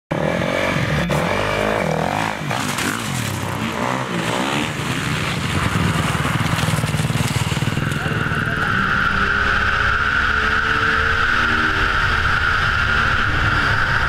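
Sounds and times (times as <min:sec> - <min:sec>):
dirt bike engines revving: 0:00.1 - 0:14.0.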